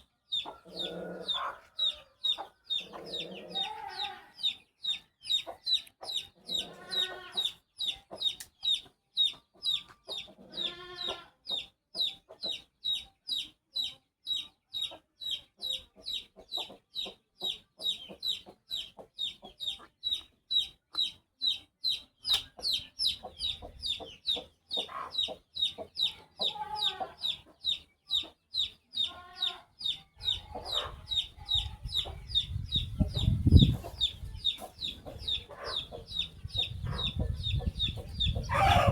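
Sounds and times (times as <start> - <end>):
chick peeping: 0.0 - 38.9.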